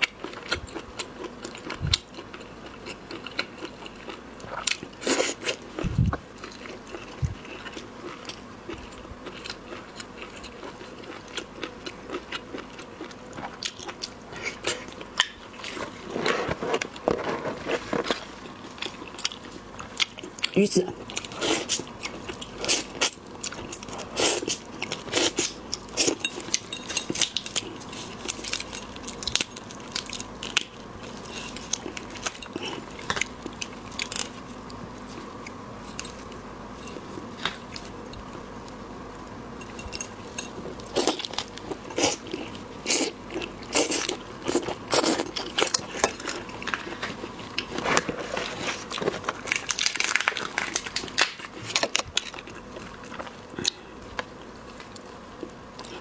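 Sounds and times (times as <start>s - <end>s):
person crunching and chewing: 0.0s - 38.8s, 39.6s - 56.0s.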